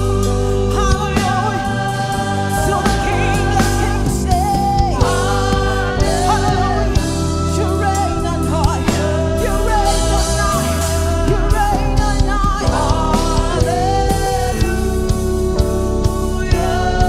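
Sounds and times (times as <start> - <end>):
band playing worship music: 0.0 - 17.0
voices singing: 0.0 - 17.0.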